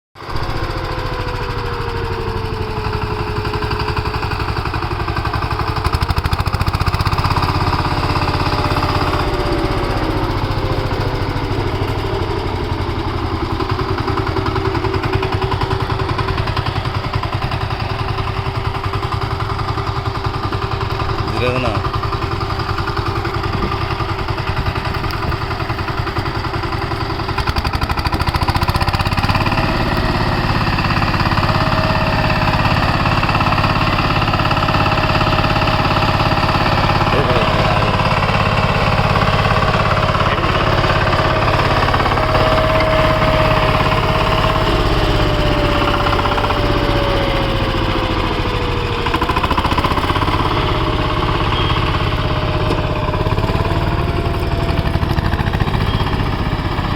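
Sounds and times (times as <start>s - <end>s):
diesel engine running: 0.2s - 56.9s.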